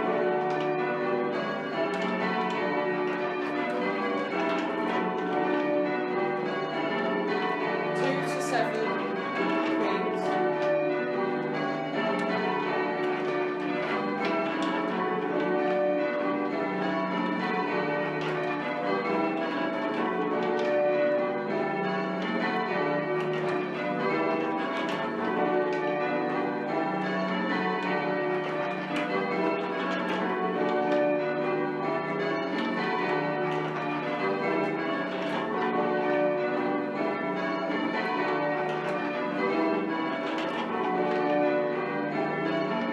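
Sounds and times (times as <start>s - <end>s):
church bells change ringing: 0.0s - 42.9s.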